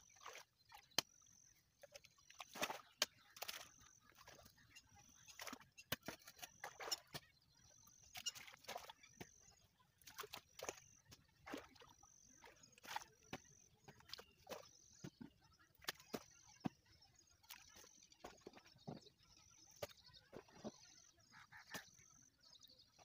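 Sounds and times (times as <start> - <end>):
muddy water splashing: 0.0 - 22.0.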